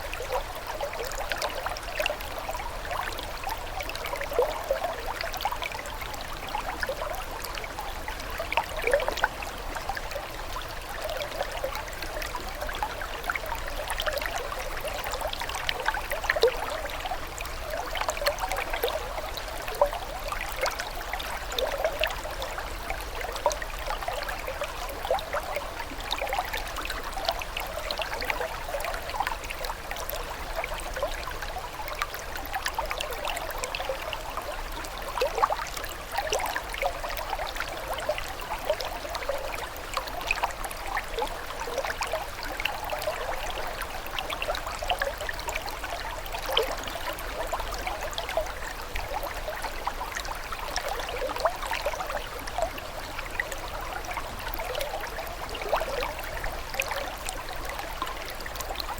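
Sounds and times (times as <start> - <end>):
water trickling and gurgling: 0.0 - 58.9.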